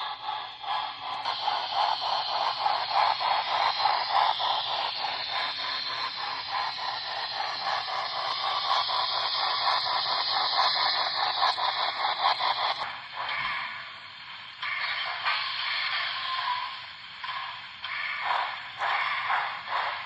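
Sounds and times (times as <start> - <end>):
steam chuffing through small speaker: 0.0 - 20.0.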